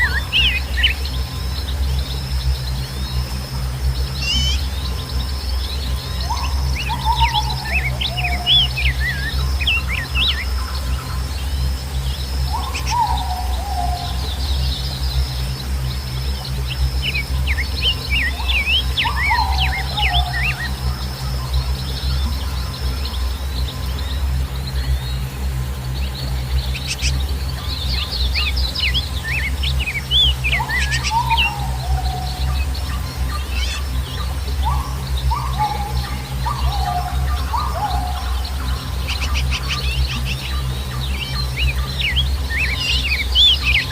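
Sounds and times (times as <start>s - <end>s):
low gliding bird call: 0.0s - 25.3s, 26.2s - 43.9s
high insect drone: 0.0s - 43.9s
small birds chirping: 0.0s - 43.9s.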